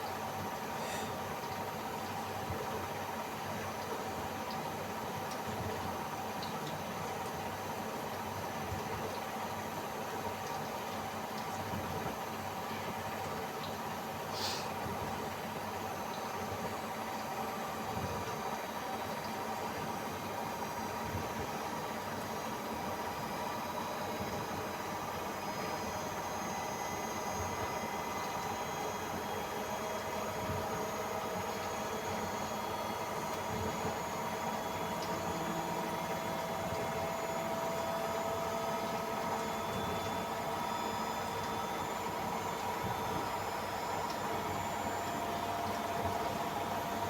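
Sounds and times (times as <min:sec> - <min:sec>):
washing machine spin whine: 0:00.0 - 0:47.0.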